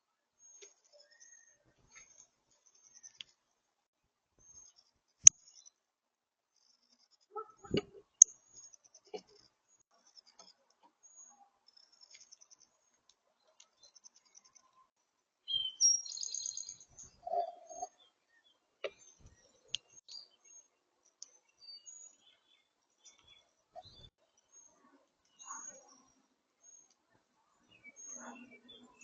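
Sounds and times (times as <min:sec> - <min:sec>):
small songbirds chirping: 0:00.0 - 0:03.7, 0:04.4 - 0:05.9, 0:06.5 - 0:29.0.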